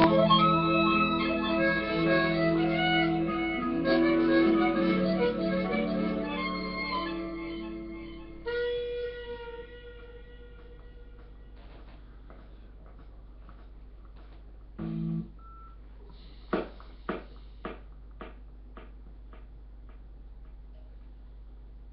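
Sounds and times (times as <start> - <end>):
low electrical hum: 0.0 - 21.9.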